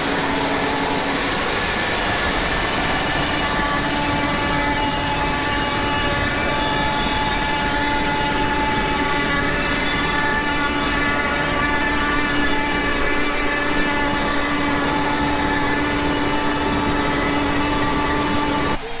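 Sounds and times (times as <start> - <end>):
steady multi-pitch whine: 0.0 - 19.0
tractor engine drone: 0.0 - 19.0.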